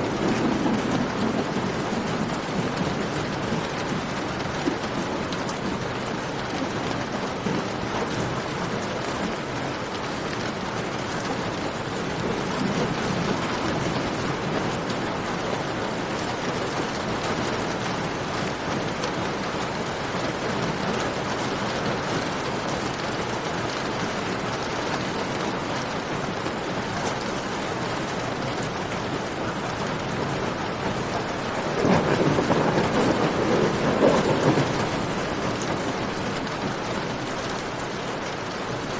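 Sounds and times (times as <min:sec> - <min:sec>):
rain falling in a cave: 0:00.0 - 0:38.9.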